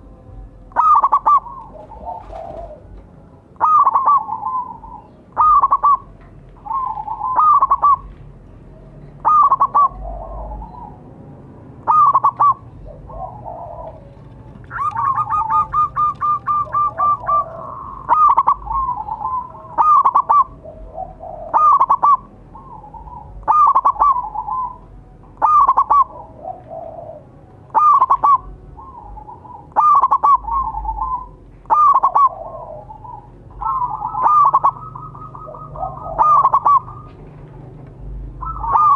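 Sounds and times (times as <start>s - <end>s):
dove cooing: 0.7s - 38.9s.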